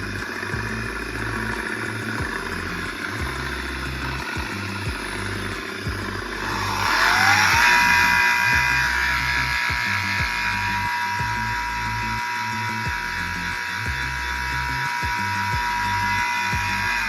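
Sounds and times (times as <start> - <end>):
gate motor with mechanical noise: 0.0 - 17.0.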